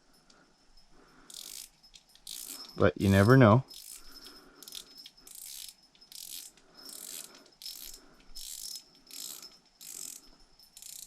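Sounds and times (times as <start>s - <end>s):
fishing reel clicker ratcheting: 1.3s - 11.0s.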